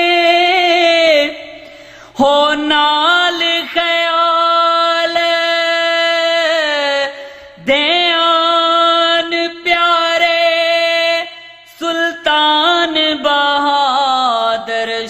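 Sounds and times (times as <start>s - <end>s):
man singing unaccompanied: 0.0s - 1.6s, 2.2s - 15.0s.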